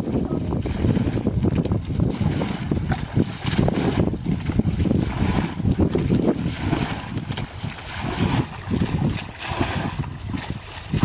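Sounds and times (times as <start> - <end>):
muddy water splashing: 0.0 - 11.0
wind rumbling on microphone: 0.0 - 11.0.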